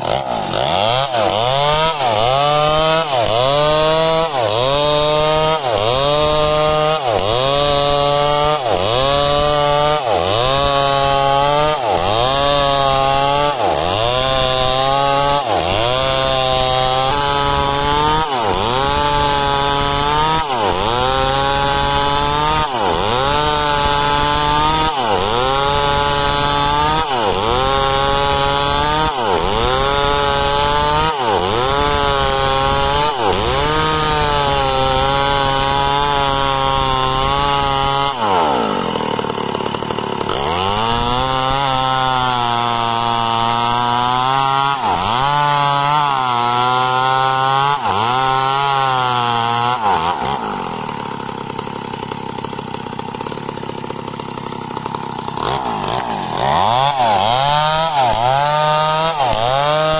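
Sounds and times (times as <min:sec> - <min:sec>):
chainsaw ripping a log: 0:00.0 - 0:59.9.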